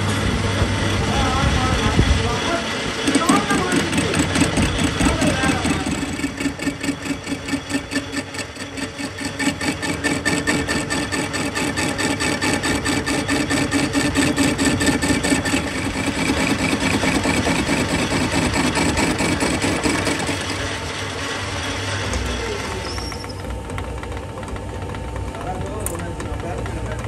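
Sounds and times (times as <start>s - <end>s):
metal lathe pulsing hum: 0.0s - 27.0s.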